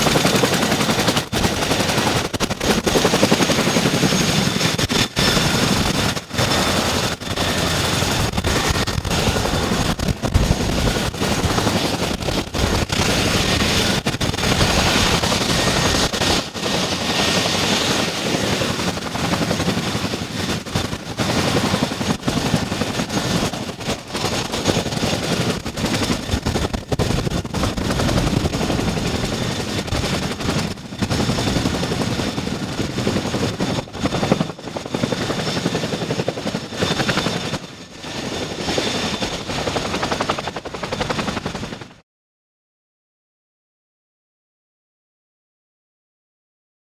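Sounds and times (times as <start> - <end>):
helicopter rotors chopping: 0.0 - 42.0.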